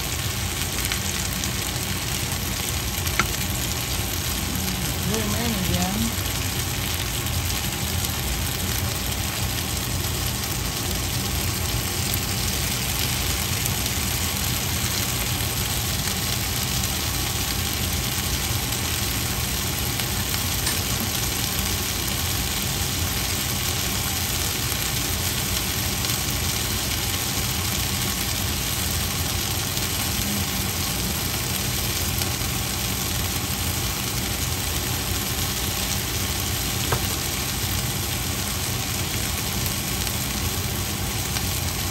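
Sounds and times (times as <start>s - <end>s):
vegetables sizzling in a pan: 0.0s - 41.9s.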